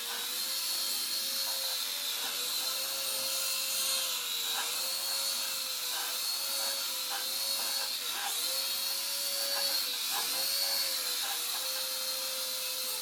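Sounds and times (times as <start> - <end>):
small electric rotors whirring: 0.0 - 13.0.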